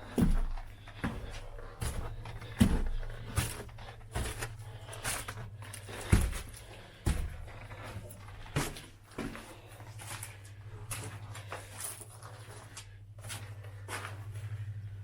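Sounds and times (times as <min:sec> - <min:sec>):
footsteps on hard floor: 0:00.0 - 0:14.2
scuffs and small knocks: 0:00.0 - 0:14.6.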